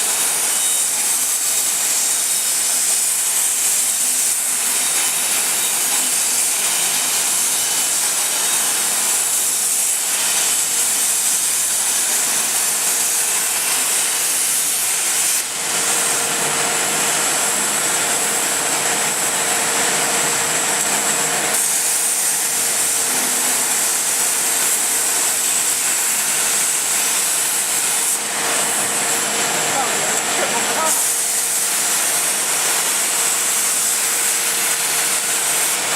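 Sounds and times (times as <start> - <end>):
plasma torch hissing: 0.0 - 35.9.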